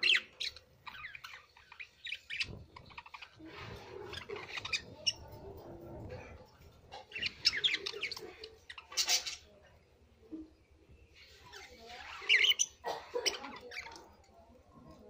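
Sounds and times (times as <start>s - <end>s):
budgerigars chirping and squawking: 0.0s - 9.6s, 11.1s - 14.2s.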